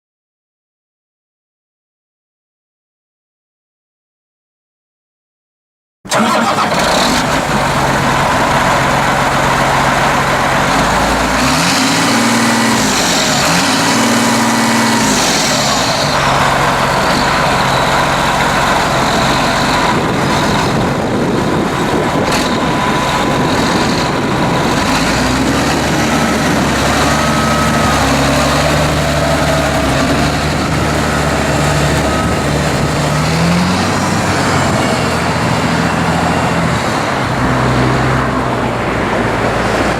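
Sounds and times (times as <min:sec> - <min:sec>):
tractor diesel engine running: 0:06.1 - 0:39.9.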